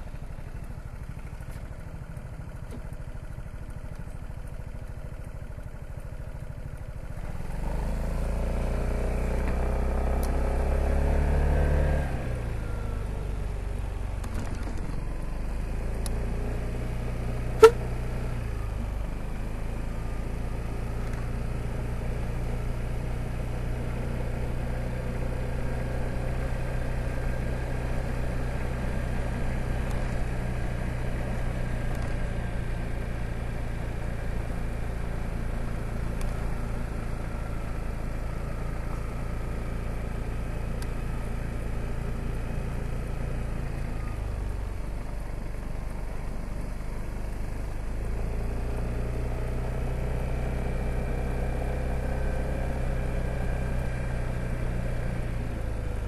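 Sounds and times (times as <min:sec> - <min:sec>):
scooter engine pulling away: 0:06.9 - 0:56.0.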